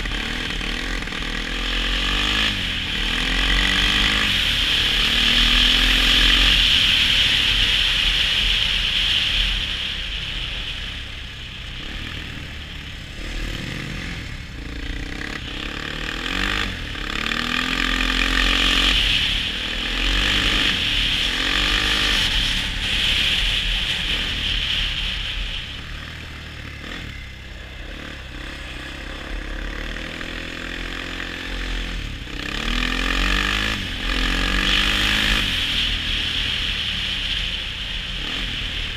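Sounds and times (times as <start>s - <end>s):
atv engine revving: 0.0s - 8.5s, 11.7s - 38.9s.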